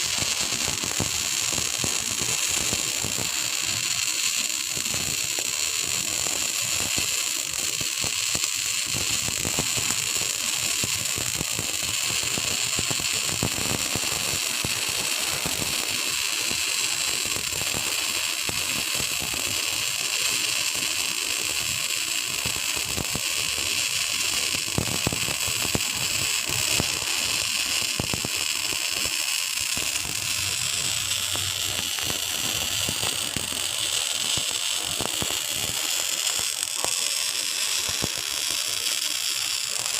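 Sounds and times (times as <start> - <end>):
welding arc crackling and fizzing: 0.0 - 39.9.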